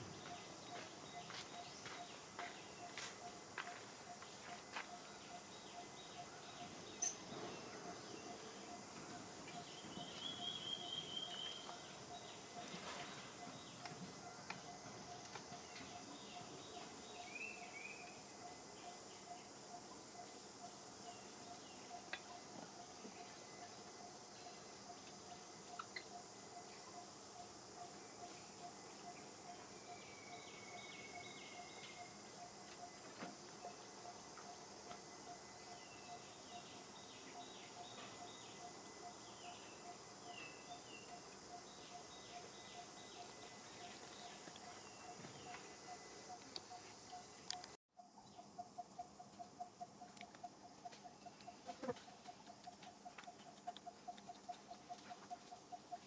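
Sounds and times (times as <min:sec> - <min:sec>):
high insect hum: 0:00.0 - 0:56.0.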